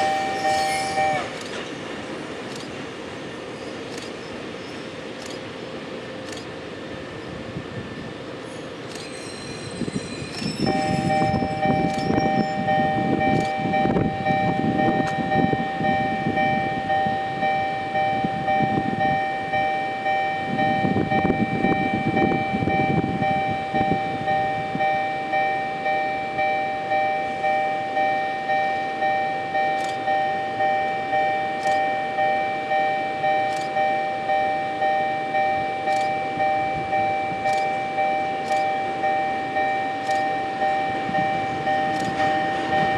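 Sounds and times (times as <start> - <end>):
level crossing alarm clanging: 0.0 - 1.8, 8.9 - 42.9
railcar rumbling over tracks: 0.0 - 42.9.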